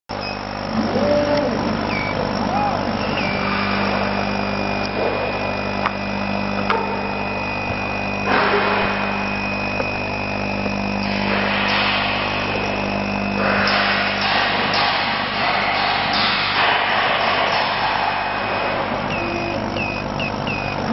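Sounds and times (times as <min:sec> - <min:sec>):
constant high whine: 0:00.1 - 0:20.9
laser cutter mechanical hum: 0:00.1 - 0:20.9.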